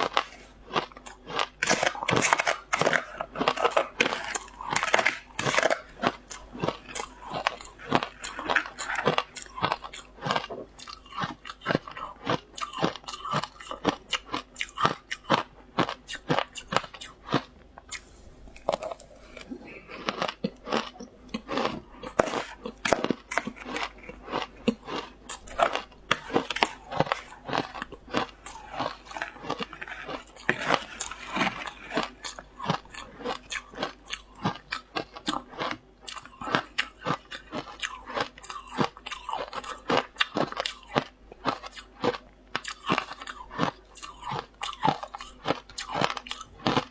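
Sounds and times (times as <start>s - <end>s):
ice crunching while chewed: 0.0s - 46.9s.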